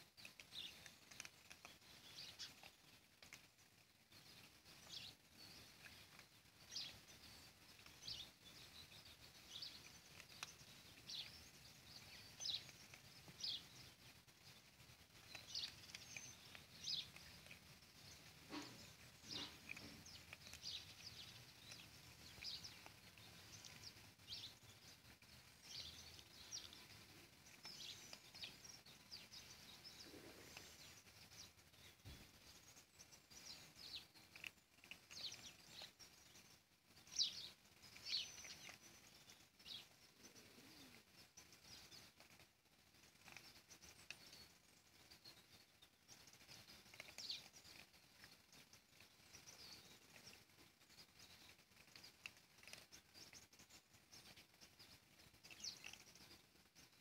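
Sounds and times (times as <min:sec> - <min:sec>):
cats crunching kibble: 0:00.0 - 0:57.0.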